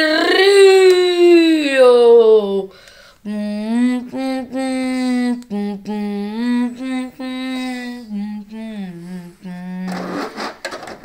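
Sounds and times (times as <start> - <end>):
child singing wordless tune: 0.0 - 10.0.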